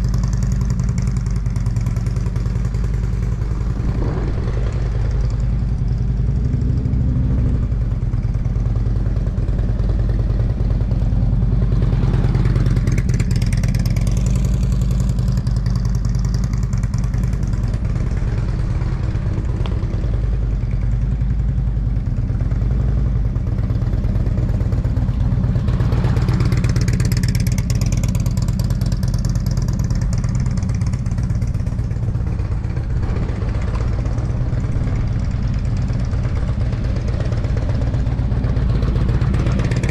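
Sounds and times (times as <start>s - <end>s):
motorcycle passing by: 1.4s - 21.0s, 23.5s - 39.9s
steady low drone: 1.6s - 28.9s, 29.8s - 39.9s.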